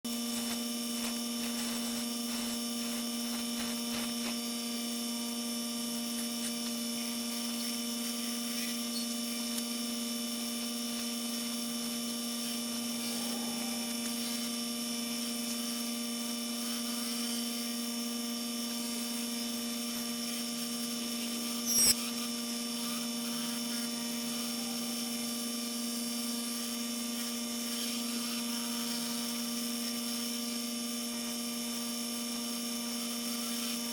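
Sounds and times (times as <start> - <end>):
steady electrical hum: 0.1 - 33.9.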